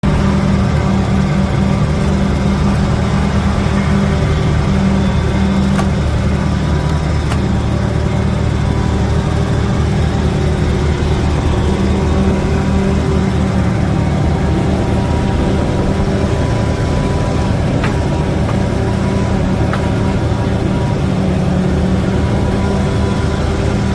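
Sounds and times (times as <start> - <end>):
boat engine running steadily: 0.0 - 23.9.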